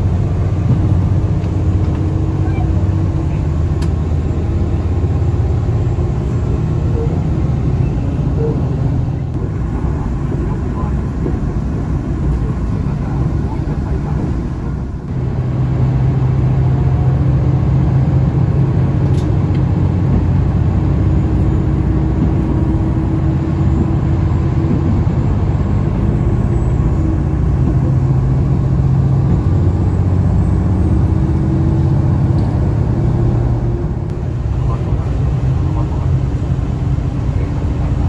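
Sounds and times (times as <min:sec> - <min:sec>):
train rumble inside carriage: 0:00.0 - 0:38.0.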